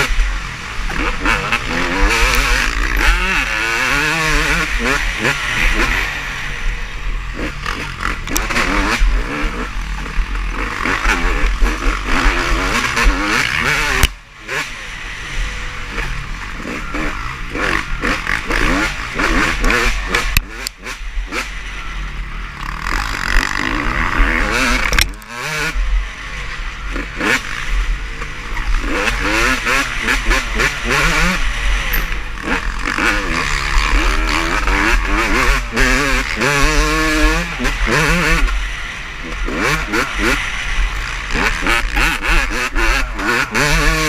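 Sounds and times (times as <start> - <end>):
motocross bikes revving: 0.0 - 44.0.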